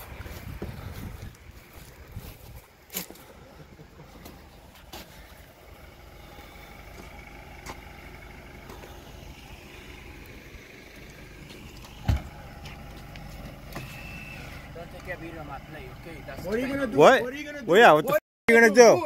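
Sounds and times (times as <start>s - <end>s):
car engine idling: 0.0s - 18.2s.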